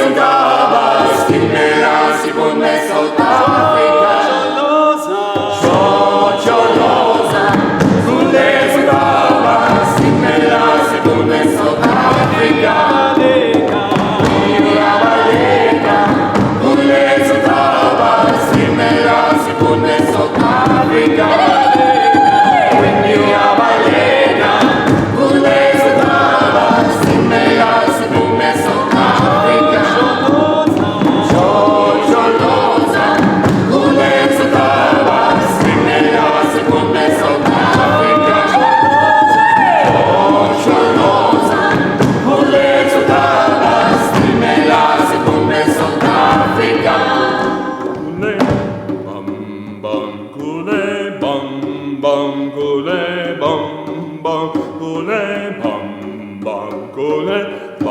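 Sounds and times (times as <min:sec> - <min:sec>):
vocal ensemble singing a cappella: 0:00.0 - 0:57.9.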